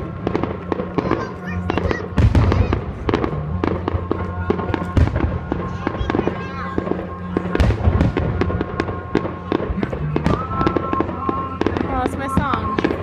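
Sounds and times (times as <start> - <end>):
fireworks booms: 0.0 - 13.0
fireworks bursting and crackling: 0.0 - 13.0
music playing: 0.0 - 13.0.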